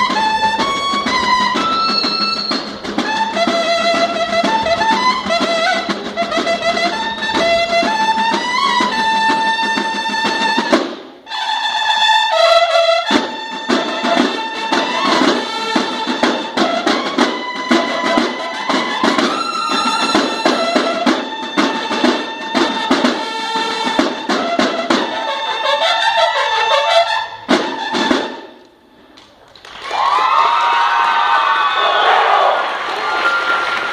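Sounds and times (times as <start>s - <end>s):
rapid snare drum strokes: 0.0s - 11.3s, 12.4s - 28.6s
bugles sounding held notes: 0.0s - 28.5s.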